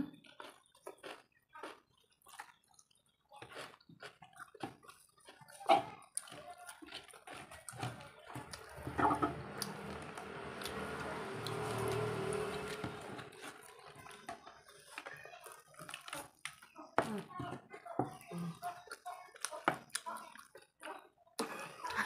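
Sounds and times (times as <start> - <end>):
wet chewing and slurping: 0.1 - 17.0, 18.2 - 21.9.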